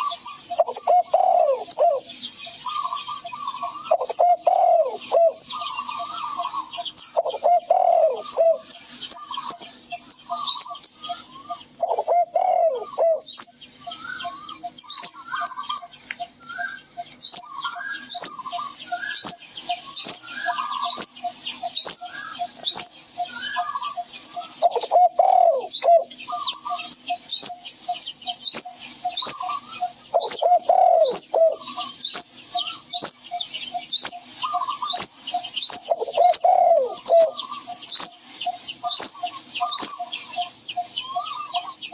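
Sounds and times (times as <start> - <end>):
birds chirping and trilling: 0.0 - 41.9.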